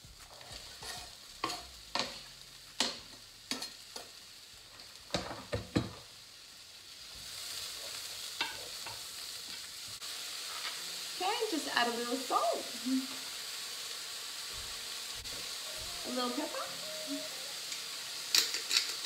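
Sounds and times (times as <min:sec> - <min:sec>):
mushrooms sizzling in a pot: 0:00.0 - 0:19.0.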